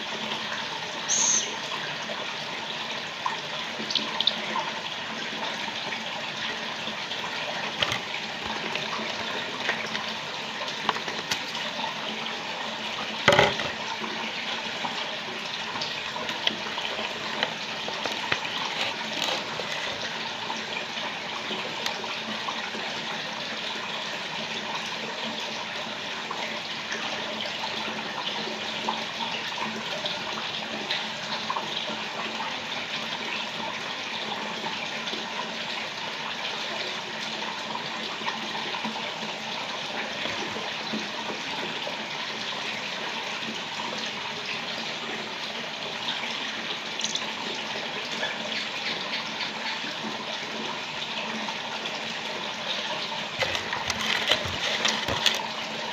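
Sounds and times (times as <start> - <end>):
running water splashing: 0.0 - 55.9.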